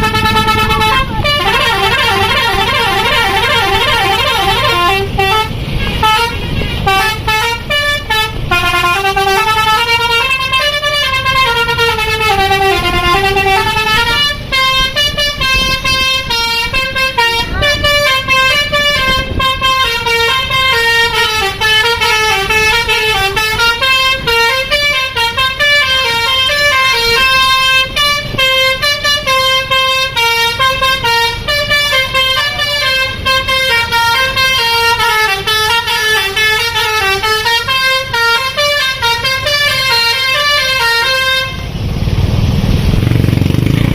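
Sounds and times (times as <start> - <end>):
musical bus horn melody: 0.0 - 41.8.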